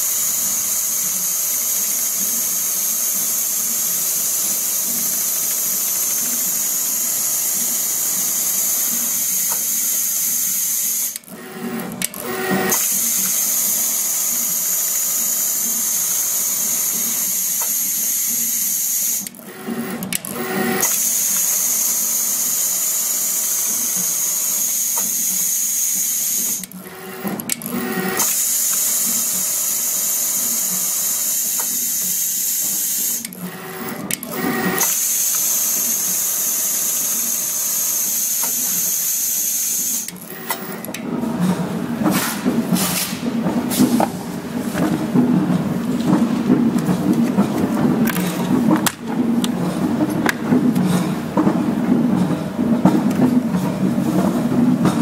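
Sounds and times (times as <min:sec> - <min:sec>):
sewing machine running: 0:00.0 - 0:52.2
short mechanical sounds: 0:00.1 - 0:51.4.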